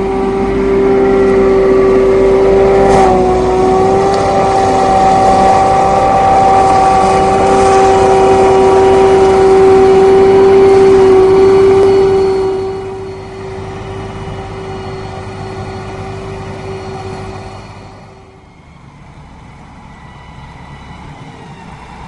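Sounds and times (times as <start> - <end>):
forage harvester engine: 0.0 - 22.0
high-pitched whine: 0.0 - 22.0.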